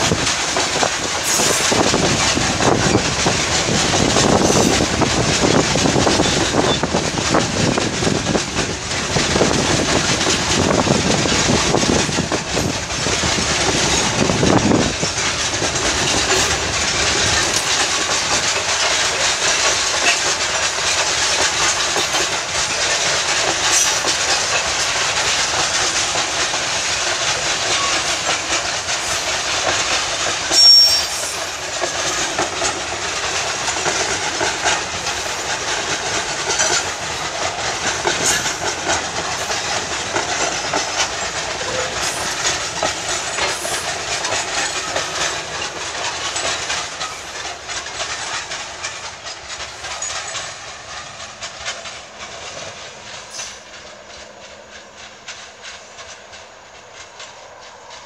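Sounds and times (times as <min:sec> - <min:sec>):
freight train wagons rolling: 0:00.0 - 0:58.0.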